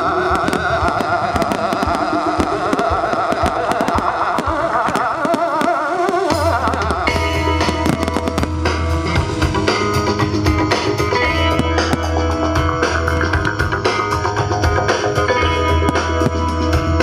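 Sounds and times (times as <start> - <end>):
wavering melody: 0.0 - 16.6
deep steady bass: 0.0 - 17.0
rapid percussion strokes: 0.0 - 17.0.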